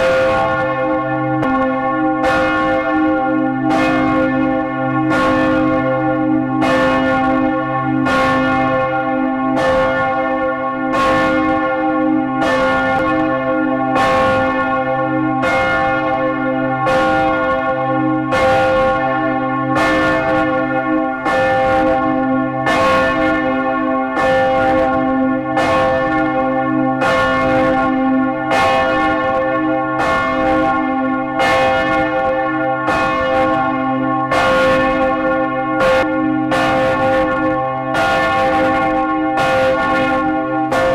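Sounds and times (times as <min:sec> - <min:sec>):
deep hum of bells: 0:00.0 - 0:40.9.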